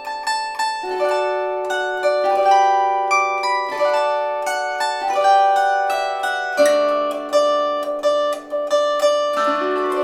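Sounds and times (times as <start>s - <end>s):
plucked string folk melody: 0.0s - 10.0s.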